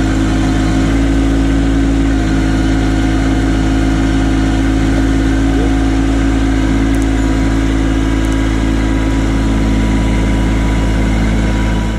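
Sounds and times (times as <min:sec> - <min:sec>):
tractor diesel engine idling: 0:00.0 - 0:11.9.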